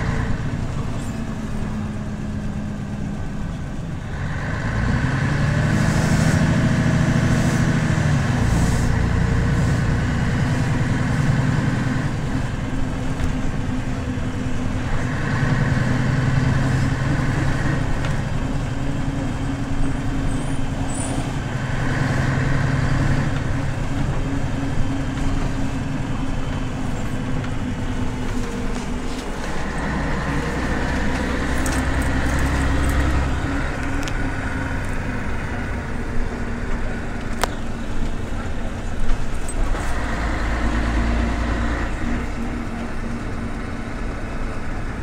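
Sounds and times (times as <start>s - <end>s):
bus diesel engine running: 0.0s - 45.0s
road noise: 0.0s - 45.0s.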